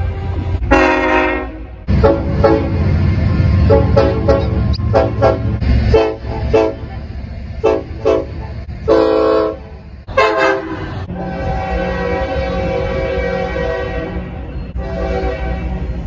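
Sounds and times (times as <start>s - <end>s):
train horn blasts: 0.5s - 2.8s, 3.6s - 6.9s, 7.6s - 16.0s.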